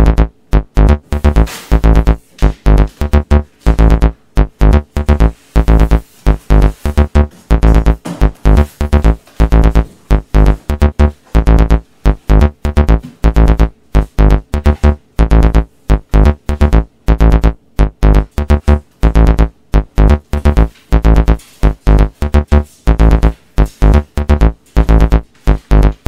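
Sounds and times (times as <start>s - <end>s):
electronic music: 0.0s - 26.0s.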